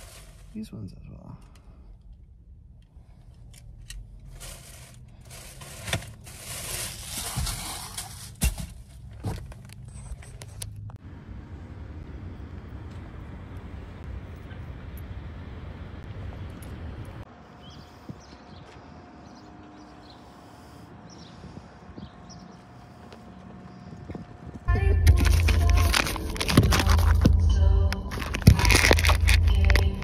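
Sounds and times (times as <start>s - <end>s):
wind: 0.0s - 30.0s
distant traffic: 0.1s - 30.0s.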